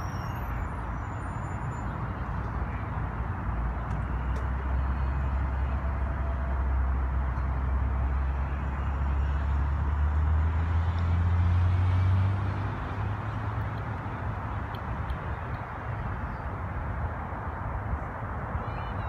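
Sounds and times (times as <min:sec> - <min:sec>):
city traffic rush: 0:00.0 - 0:19.0.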